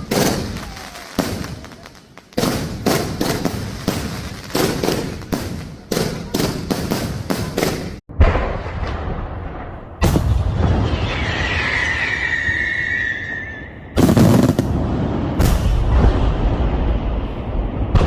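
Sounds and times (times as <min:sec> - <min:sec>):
firecrackers banging: 0:00.0 - 0:12.3, 0:14.0 - 0:18.0.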